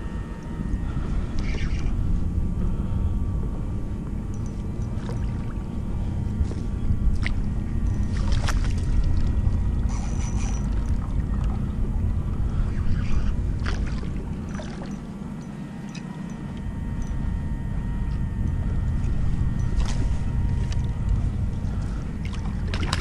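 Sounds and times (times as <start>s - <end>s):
water lapping around a kayak: 0.0s - 23.0s
wind rumbling on microphone: 0.0s - 23.0s.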